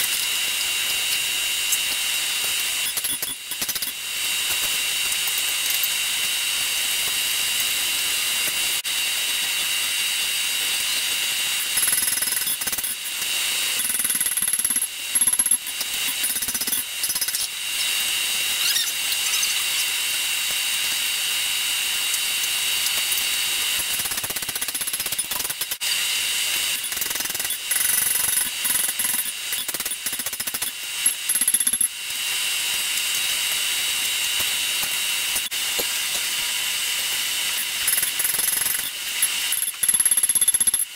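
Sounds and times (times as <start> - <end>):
high mechanical whine: 0.0 - 40.9.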